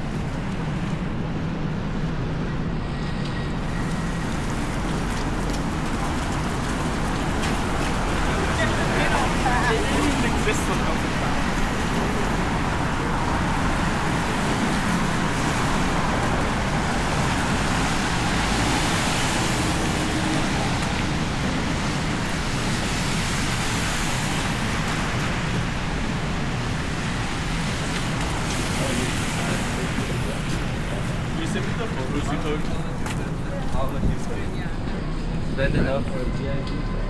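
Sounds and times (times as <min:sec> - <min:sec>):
city street traffic: 0:00.0 - 0:37.0
vehicles passing: 0:00.0 - 0:37.0.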